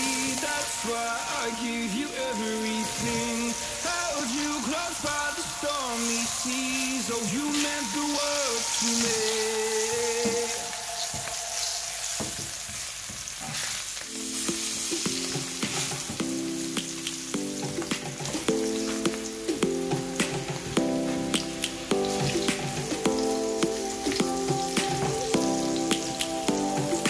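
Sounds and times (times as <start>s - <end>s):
background music: 0.0s - 13.0s, 14.0s - 27.0s
vegetables sizzling in oil: 0.0s - 27.0s.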